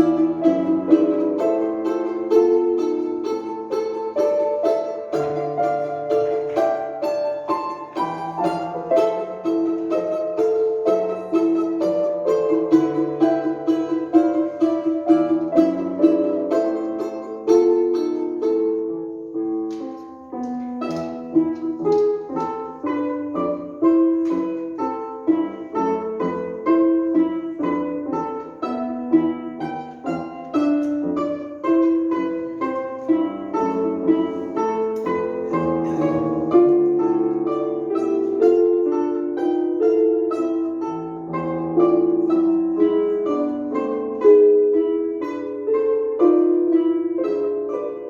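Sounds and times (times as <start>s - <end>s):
plucked instrumental melody: 0.0s - 48.0s.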